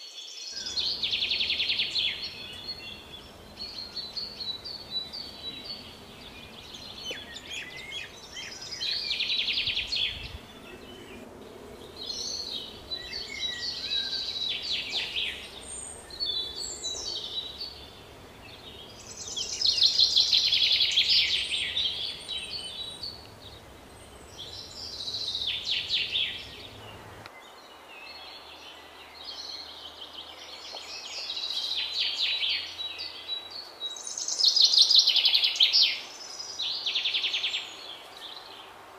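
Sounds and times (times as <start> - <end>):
birds chirping trills: 0.5 - 38.8.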